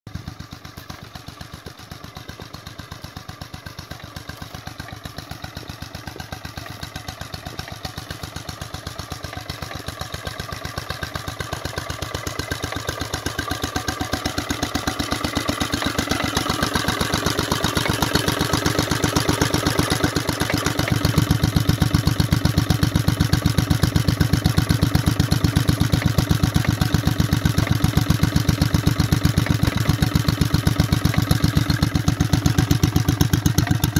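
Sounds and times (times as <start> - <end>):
stationary engine running: 0.1 - 33.9.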